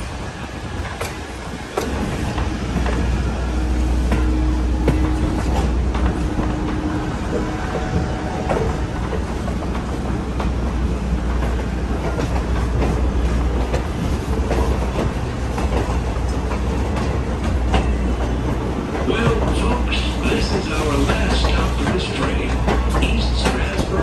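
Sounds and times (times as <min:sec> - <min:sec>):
train coach rumbling: 0:00.0 - 0:24.0
wheels clicking on rails: 0:00.0 - 0:24.0.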